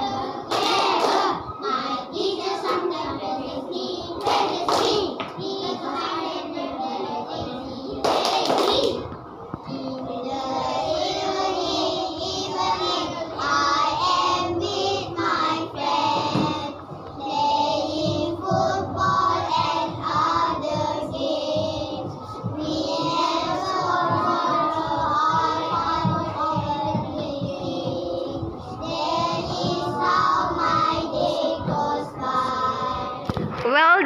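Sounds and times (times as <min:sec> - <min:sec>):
children singing in chorus: 0:00.0 - 0:33.4.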